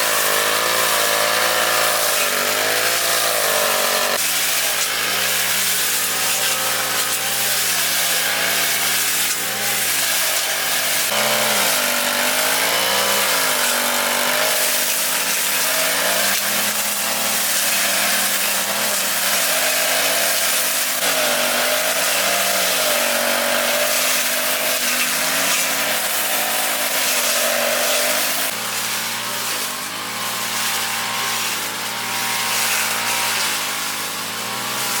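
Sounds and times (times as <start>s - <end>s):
lawn mower motor running: 0.0s - 35.0s.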